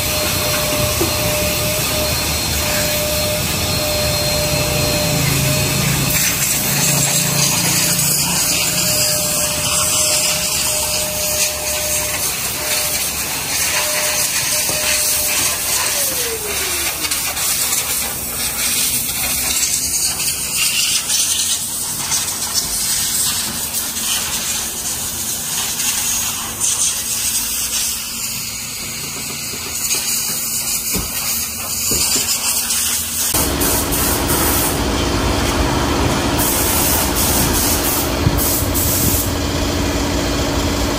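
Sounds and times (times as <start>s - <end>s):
pressure washer spraying: 0.0s - 40.9s.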